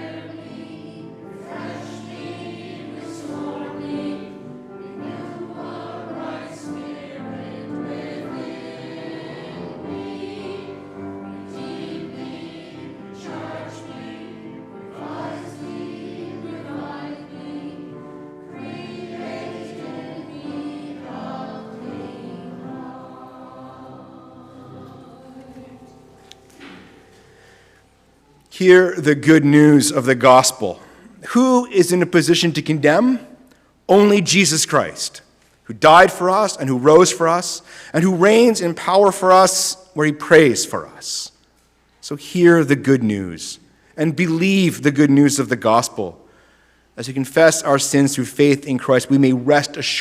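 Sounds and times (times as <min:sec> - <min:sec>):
church choir singing: 0:00.0 - 0:33.2, 0:33.9 - 0:41.3, 0:42.0 - 0:50.0.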